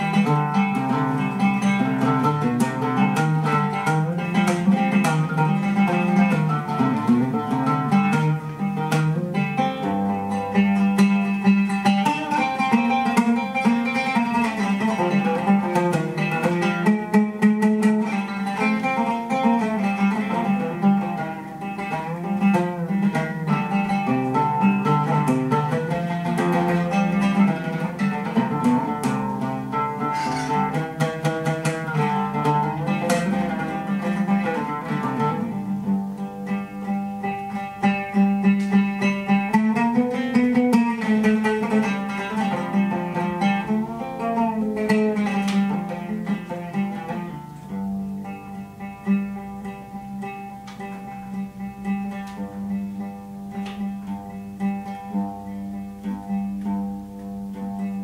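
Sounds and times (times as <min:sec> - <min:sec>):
oud plucked: 0:00.0 - 0:58.0.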